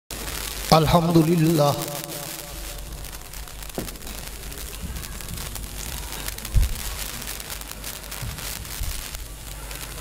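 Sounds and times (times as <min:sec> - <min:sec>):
crackling noise: 0:00.1 - 0:10.0.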